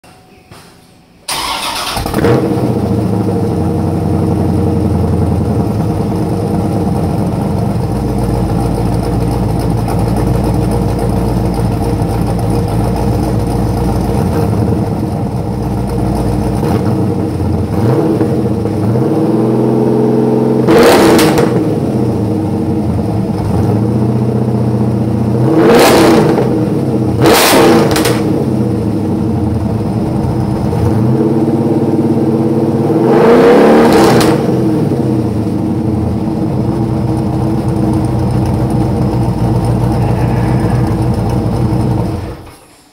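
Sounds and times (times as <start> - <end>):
car engine idling and revving: 1.3 - 42.5.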